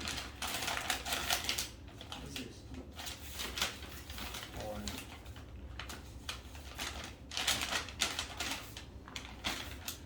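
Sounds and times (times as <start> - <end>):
wrapping paper tearing and crinkling: 0.0 - 10.0.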